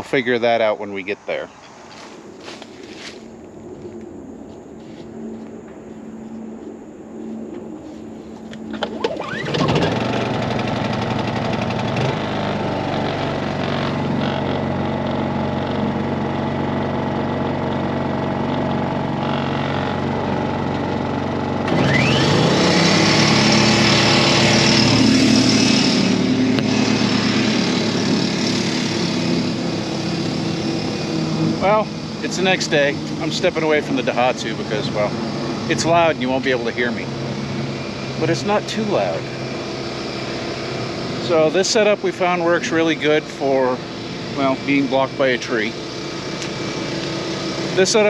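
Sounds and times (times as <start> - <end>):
air compressor whine: 0.0 - 48.0
portable generator engine running: 8.2 - 48.0.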